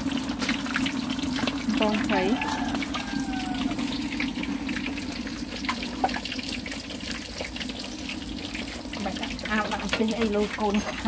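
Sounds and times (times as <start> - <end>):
water running: 0.0 - 11.0.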